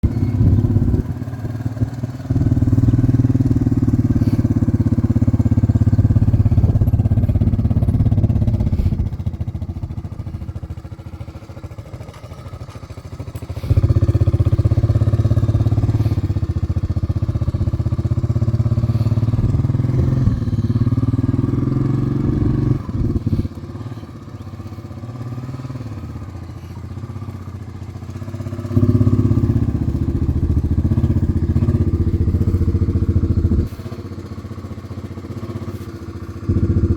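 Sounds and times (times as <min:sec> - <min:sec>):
quad bike engine running: 0:00.0 - 0:36.9.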